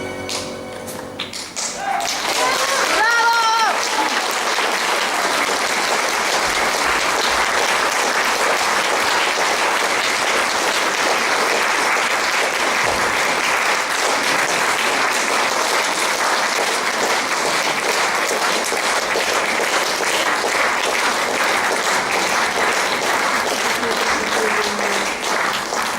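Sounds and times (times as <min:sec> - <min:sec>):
audience applauding: 0:00.3 - 0:25.9.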